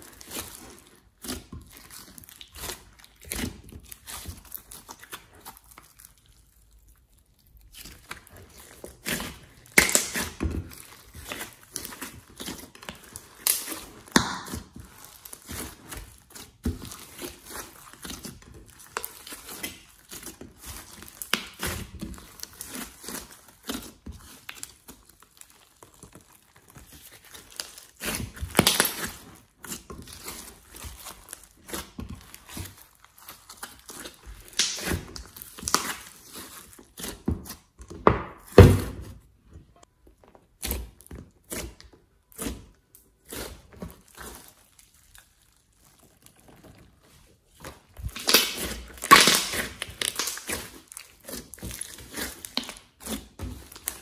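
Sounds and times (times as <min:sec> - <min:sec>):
slime squeezed by hand crackling: 0:00.0 - 0:37.8, 0:40.6 - 0:54.0.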